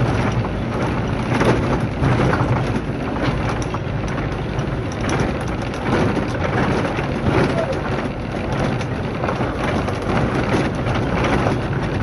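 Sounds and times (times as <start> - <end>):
knocks and rattles from bumpy road: 0.0 - 12.0
vehicle engine humming: 0.0 - 12.0.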